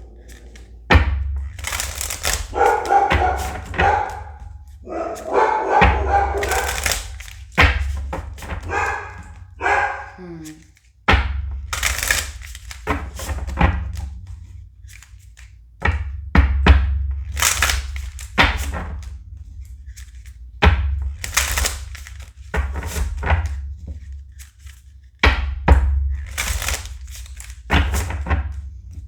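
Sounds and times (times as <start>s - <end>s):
cards shuffling: 0.0s - 16.2s, 17.2s - 29.0s
low thud of cards: 0.0s - 29.0s.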